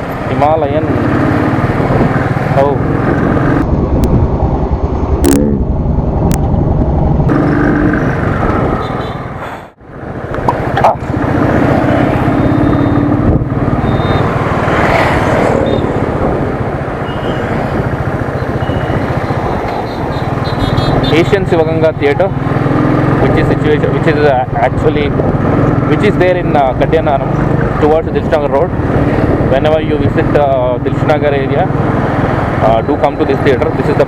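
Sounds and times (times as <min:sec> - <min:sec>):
traffic noise: 0:00.0 - 0:34.0
wind noise: 0:00.9 - 0:23.5, 0:24.2 - 0:33.1.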